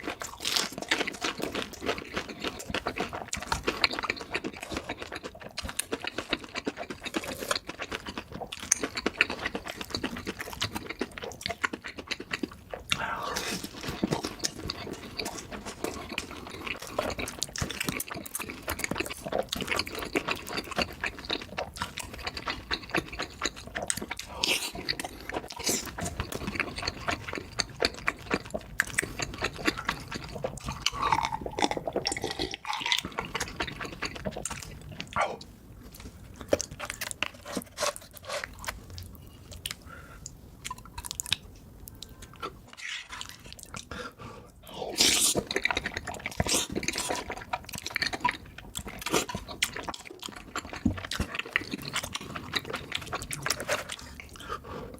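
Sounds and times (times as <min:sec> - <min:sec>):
wet chewing and slurping: 0:00.0 - 0:54.9.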